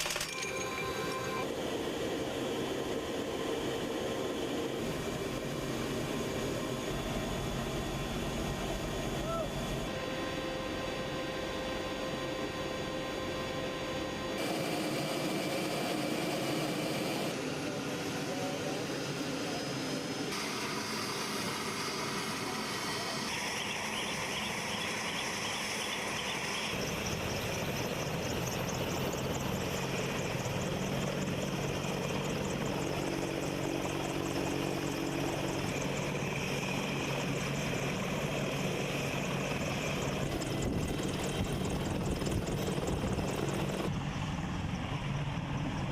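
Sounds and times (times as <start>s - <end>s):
helicopter engines and rotors: 0.0s - 45.9s.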